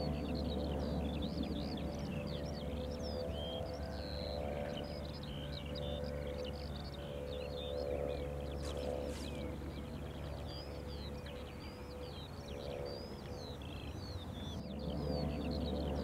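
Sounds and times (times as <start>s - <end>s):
birds chirping and warbling: 0.0s - 16.0s
low steady drone: 0.0s - 16.0s.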